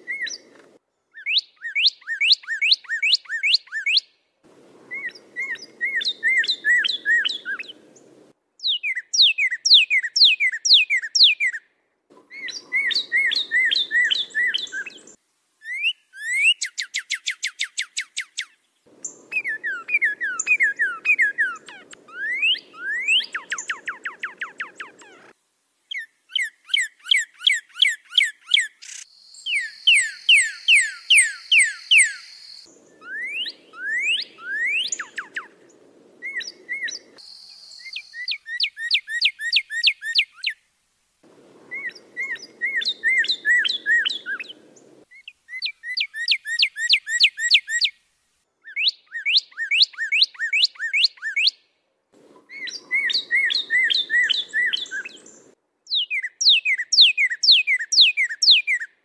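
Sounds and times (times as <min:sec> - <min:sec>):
songbird whistled chirps: 0:00.0 - 0:04.1, 0:04.8 - 0:11.6, 0:12.2 - 0:25.3, 0:25.9 - 0:40.6, 0:41.3 - 0:48.0, 0:48.7 - 0:51.6, 0:52.4 - 0:59.0.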